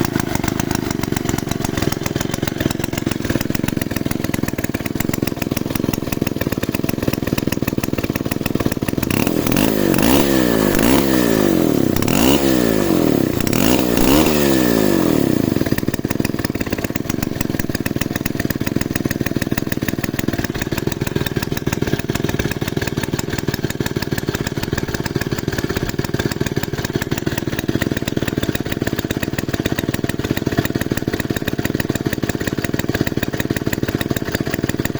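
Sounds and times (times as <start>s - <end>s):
chainsaw engine revving and idling: 0.0s - 34.9s.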